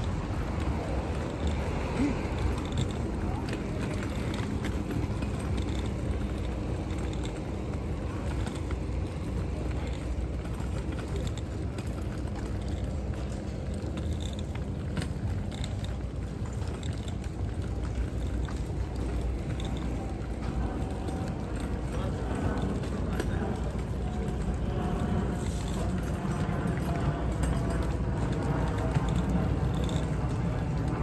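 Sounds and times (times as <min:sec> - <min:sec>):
wagon wheels rolling on concrete: 0:00.0 - 0:31.0.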